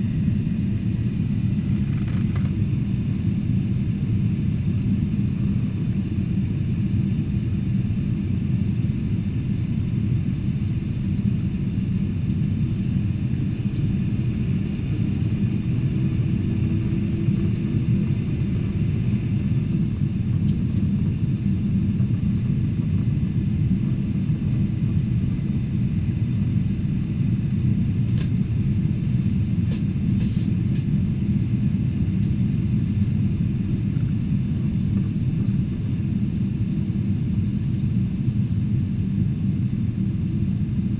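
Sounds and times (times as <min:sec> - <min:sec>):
airplane cabin rumble: 0:00.0 - 0:40.9.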